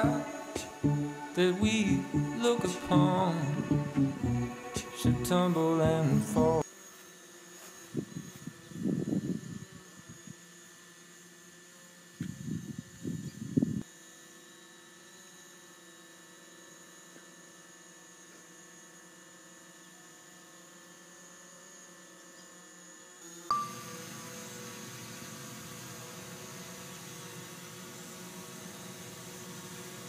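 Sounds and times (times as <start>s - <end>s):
drone motors humming: 0.0s - 13.8s, 19.6s - 30.0s.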